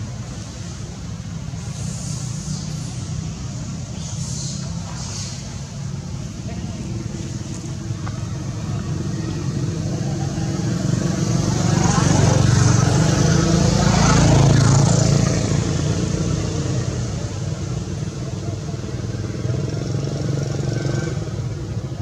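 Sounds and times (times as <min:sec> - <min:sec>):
vehicle engine passing by: 0:00.0 - 0:22.0.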